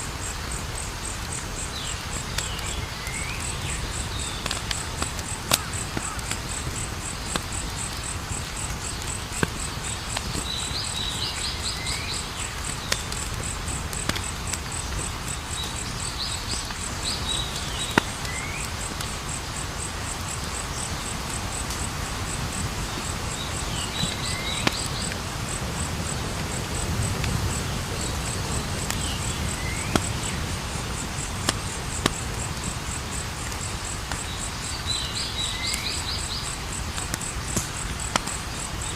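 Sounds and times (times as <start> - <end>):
campfire crackling: 0.0 - 38.9
crickets chirring: 0.0 - 38.9.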